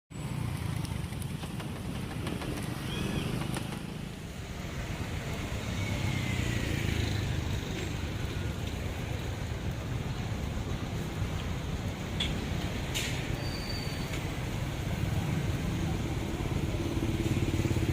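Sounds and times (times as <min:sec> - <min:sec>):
passing traffic rumble: 0:00.1 - 0:17.9.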